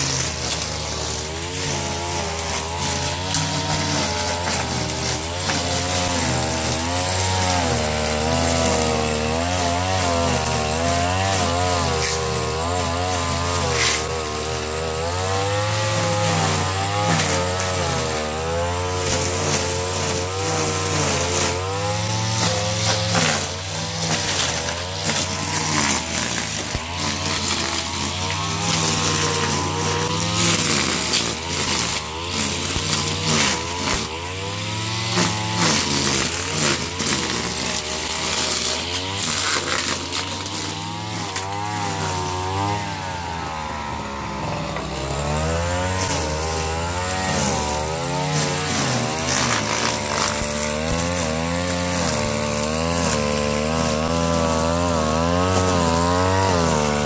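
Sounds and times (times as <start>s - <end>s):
brush cutter engine running: 0.0s - 57.0s
trimmer line cutting grass: 0.0s - 57.0s.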